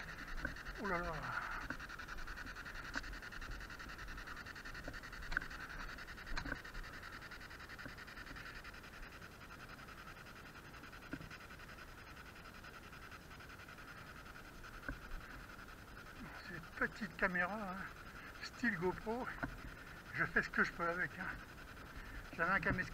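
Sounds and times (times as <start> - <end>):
steady high-pitched hiss: 0.0 - 22.9.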